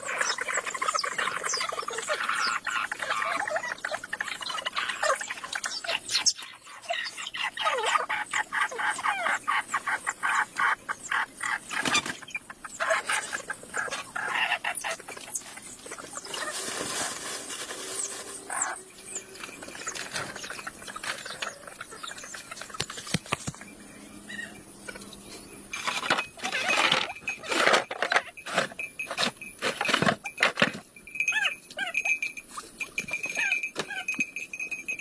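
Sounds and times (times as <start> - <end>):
birds chirping and squeaking: 0.0 - 35.0.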